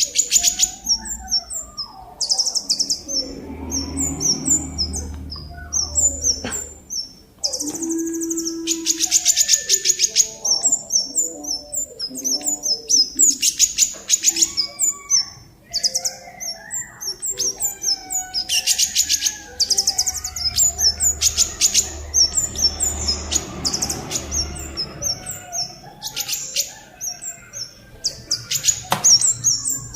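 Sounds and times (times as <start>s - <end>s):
songbird chirping and trilling: 0.0s - 29.9s.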